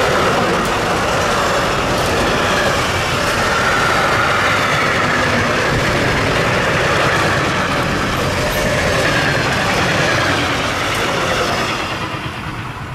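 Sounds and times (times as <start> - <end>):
freight train rolling past: 0.0 - 12.9.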